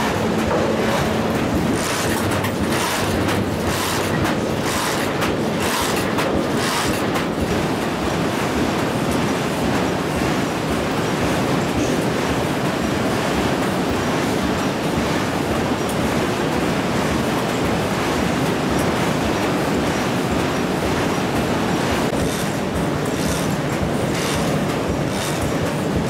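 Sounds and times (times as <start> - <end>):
die-cutting machine running: 0.0 - 26.0.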